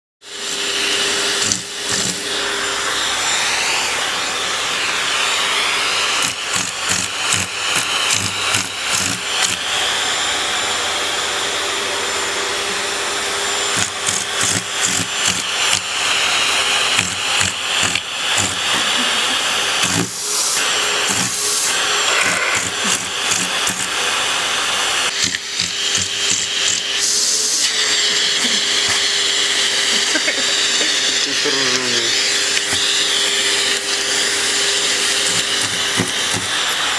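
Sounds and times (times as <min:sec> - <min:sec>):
vacuum cleaner whining: 0:00.2 - 0:36.9.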